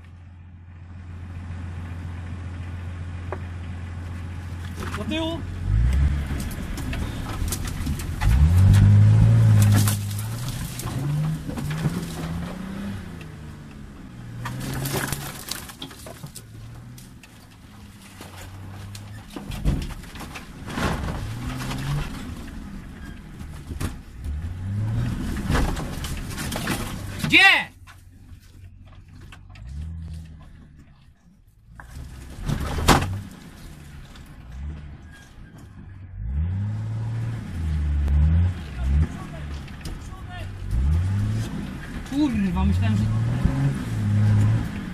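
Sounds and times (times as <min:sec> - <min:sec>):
engine revving: 0:00.8 - 0:19.7, 0:20.3 - 0:27.4, 0:28.4 - 0:44.9
branches scraping against vehicle: 0:03.9 - 0:44.9.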